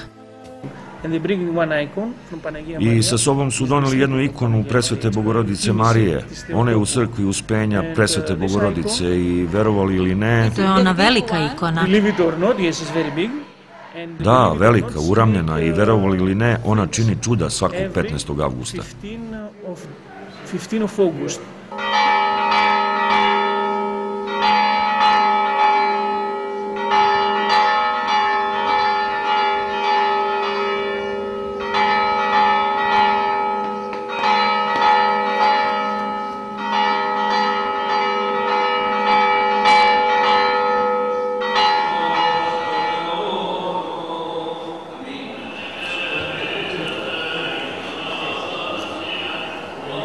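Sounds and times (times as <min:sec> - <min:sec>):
church bells clanging: 0:00.0 - 0:13.3, 0:21.7 - 0:50.0.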